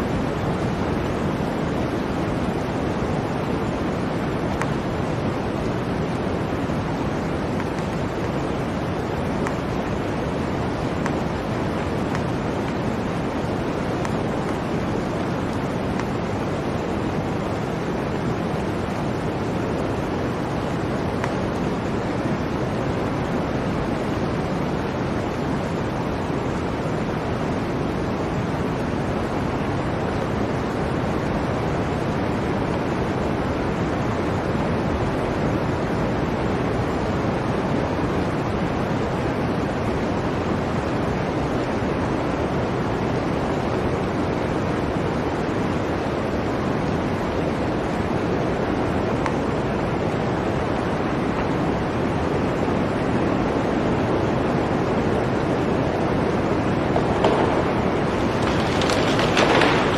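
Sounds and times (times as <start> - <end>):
blizzard wind rushing: 0.0 - 59.9.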